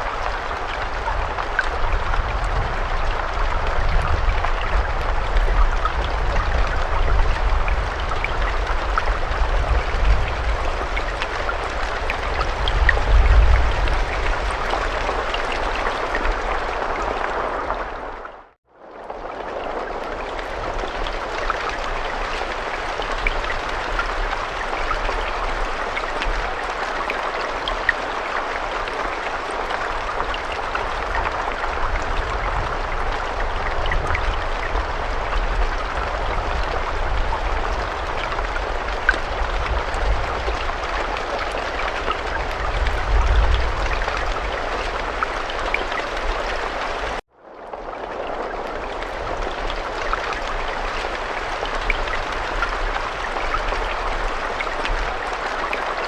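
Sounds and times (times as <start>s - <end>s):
raindrops ticking: 0.0s - 18.3s, 19.0s - 56.0s
steady rain hiss: 0.0s - 56.0s.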